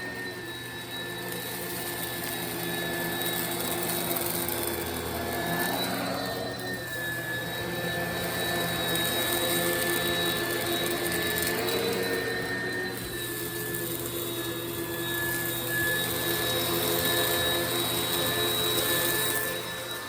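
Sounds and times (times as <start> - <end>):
vacuum cleaner running over carpet: 0.0 - 20.0.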